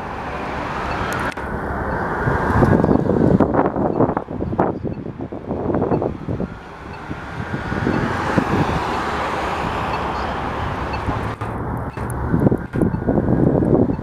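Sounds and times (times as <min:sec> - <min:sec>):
vehicle engine and tyre noise: 0:00.0 - 0:14.0.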